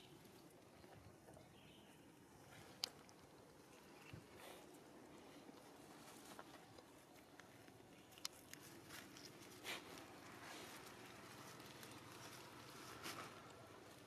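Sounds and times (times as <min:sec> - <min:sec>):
soft rustles: 0:02.4 - 0:14.0.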